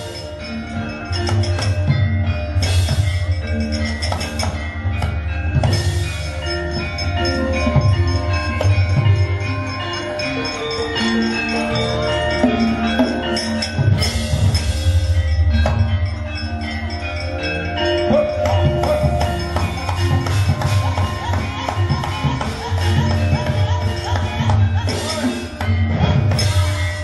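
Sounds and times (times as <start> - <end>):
gamelan playing: 0.0 - 27.0
hand drum: 0.0 - 27.0.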